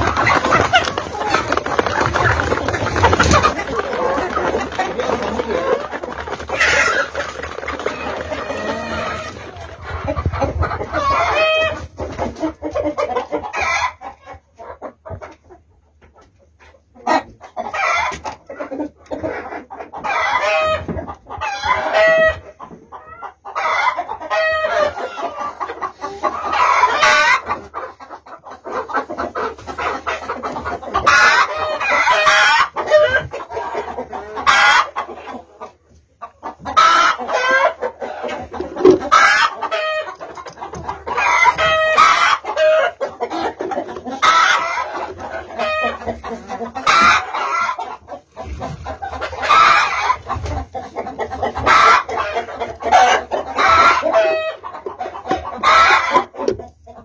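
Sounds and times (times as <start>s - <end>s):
chickens clucking and squawking: 0.0s - 57.0s.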